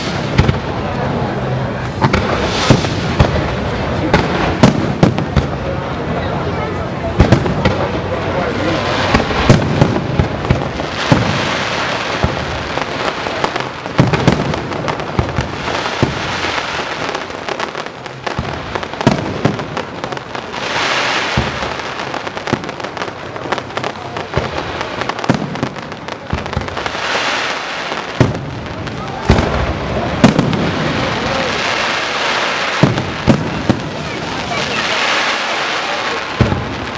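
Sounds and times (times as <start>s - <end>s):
fireworks crackling and hiss: 0.0s - 36.9s
spectators' voices: 0.0s - 36.9s.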